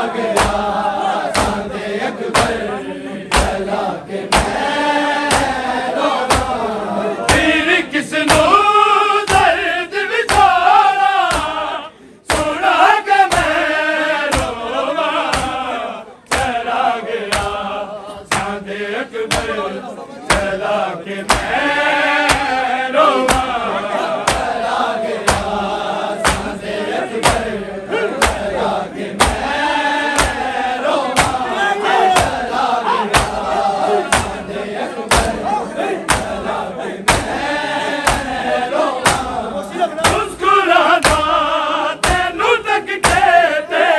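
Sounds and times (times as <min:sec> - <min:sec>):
men chanting in unison: 0:00.0 - 0:43.9
rhythmic sharp beats: 0:00.0 - 0:43.9.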